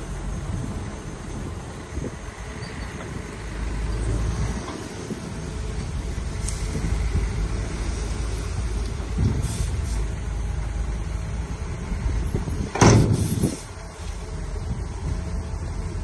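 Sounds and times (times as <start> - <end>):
bulldozer diesel engine rumbling: 0.0 - 16.0.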